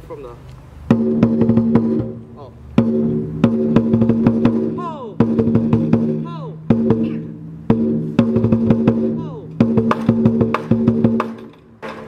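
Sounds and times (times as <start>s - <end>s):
sharp percussive hits: 0.8s - 12.0s.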